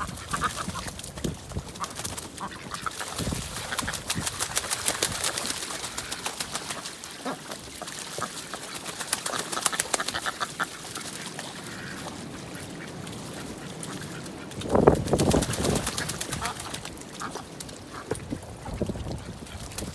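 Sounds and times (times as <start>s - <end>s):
ducks quacking: 0.0s - 1.0s, 1.6s - 4.8s, 5.4s - 14.6s, 15.3s - 18.2s.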